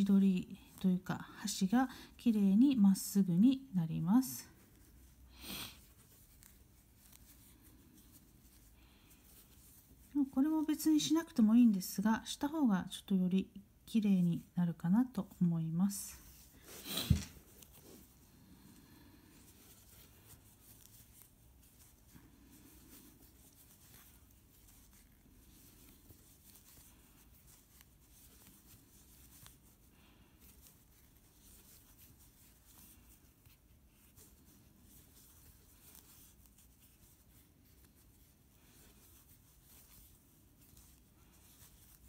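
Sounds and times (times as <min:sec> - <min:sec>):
yarn rustling with crochet hook: 0:00.0 - 0:42.0.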